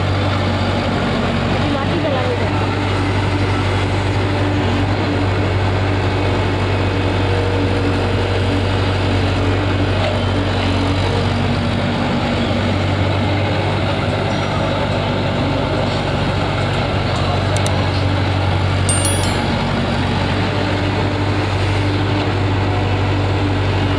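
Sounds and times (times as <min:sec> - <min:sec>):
heavy diesel engine running: 0:00.0 - 0:23.9.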